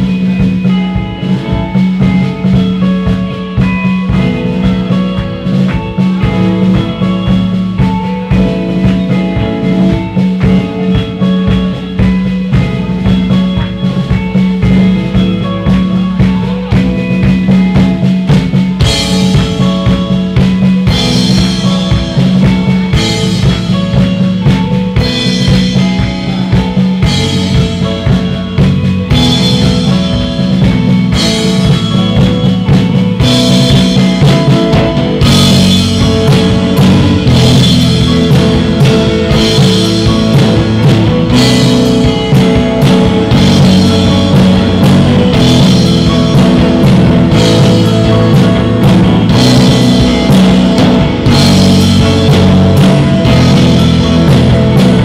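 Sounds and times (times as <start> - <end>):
heavy bass drum: 0.0 - 55.0
post-rock band playing: 0.0 - 55.0.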